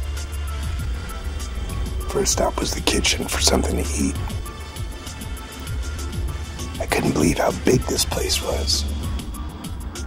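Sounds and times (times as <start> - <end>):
background music with low bass: 0.0 - 10.0.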